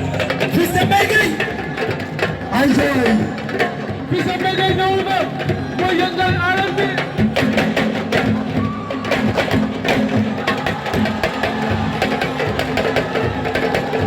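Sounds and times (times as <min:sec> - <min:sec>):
fast dense drumming: 0:00.0 - 0:14.0.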